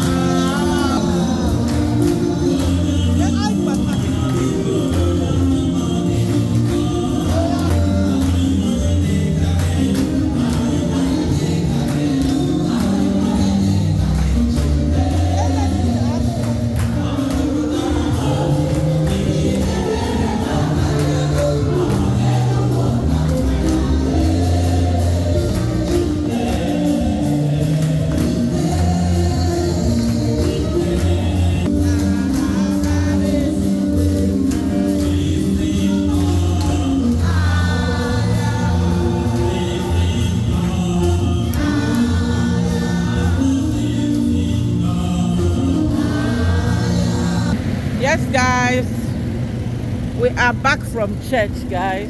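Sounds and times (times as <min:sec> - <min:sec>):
choir singing gospel music: 0:00.0 - 0:52.0
sustained bass notes: 0:00.0 - 0:52.0.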